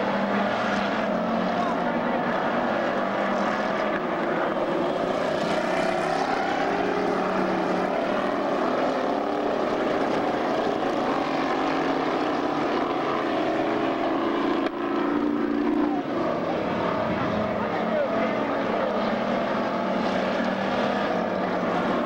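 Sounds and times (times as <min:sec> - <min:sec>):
racing car engines droning: 0:00.0 - 0:22.0.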